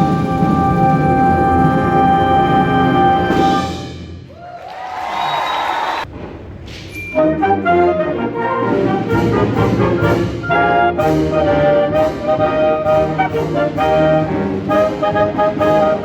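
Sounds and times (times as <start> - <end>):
brass and woodwind chords: 0.0 - 4.0, 7.2 - 16.0.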